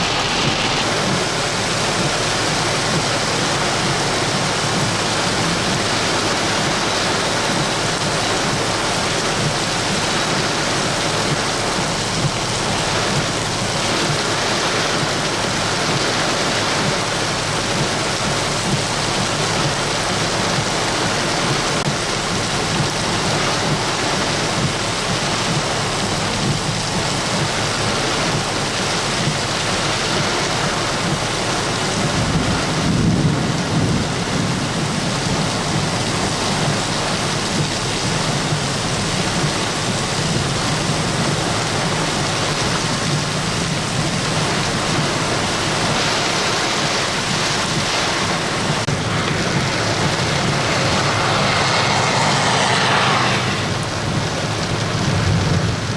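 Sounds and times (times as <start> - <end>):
low rumble of thunder: 0.0 - 55.9
torrential rain pouring: 0.0 - 55.9.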